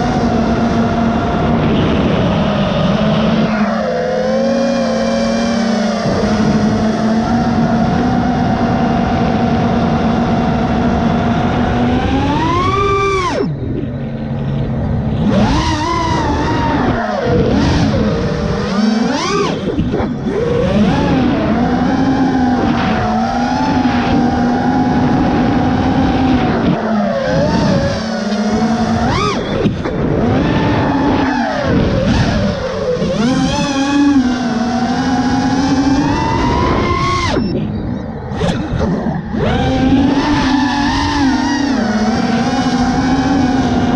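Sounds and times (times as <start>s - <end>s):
quadcopter motors whining: 0.0s - 43.9s
steady rush of noise: 0.0s - 43.9s.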